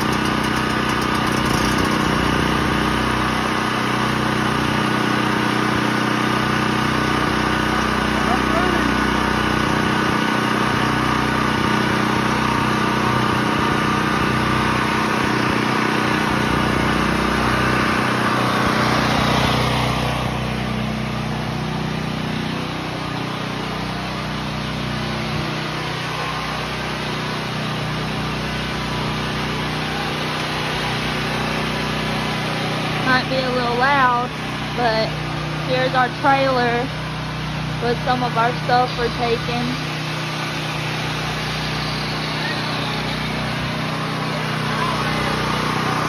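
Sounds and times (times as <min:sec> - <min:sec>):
generator engine running: 0:00.0 - 0:46.0.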